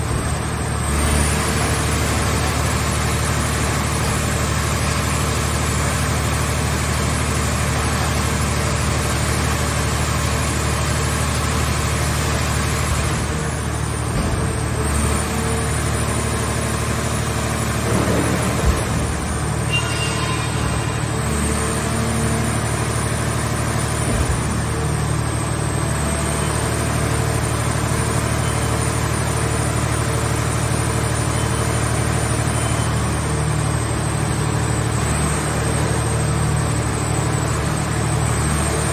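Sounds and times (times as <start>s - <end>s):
baler engine and hydraulics: 0.0s - 38.9s.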